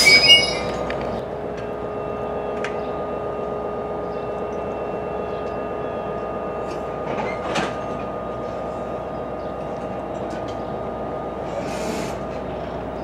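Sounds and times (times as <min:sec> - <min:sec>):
train mechanical hum: 0:00.0 - 0:13.0.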